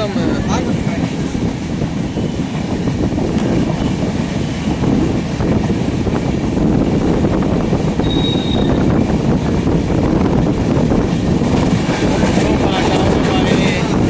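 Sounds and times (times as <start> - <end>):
train rumbling: 0.0 - 14.0
wind on microphone: 0.0 - 14.0.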